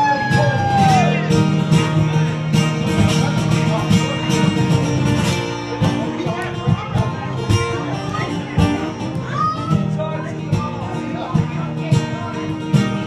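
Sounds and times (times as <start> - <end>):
fingerpicked acoustic guitar: 0.0 - 13.0.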